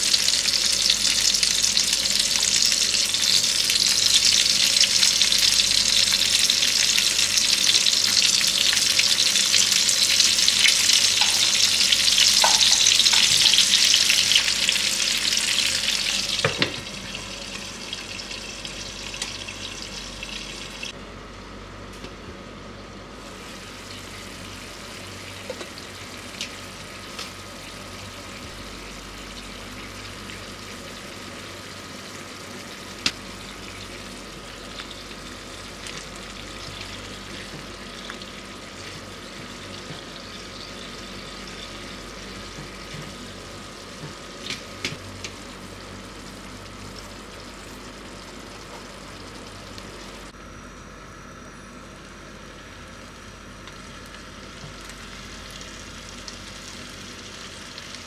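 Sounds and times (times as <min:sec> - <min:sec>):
tomato slices sizzling in oil: 0:00.0 - 0:21.0, 0:23.2 - 0:50.4, 0:53.0 - 0:58.0.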